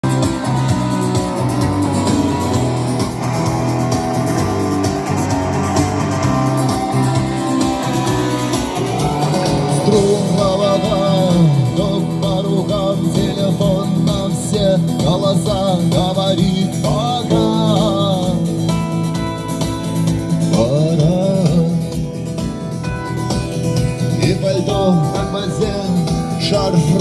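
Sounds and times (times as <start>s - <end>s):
rock music with guitars: 0.0s - 27.0s.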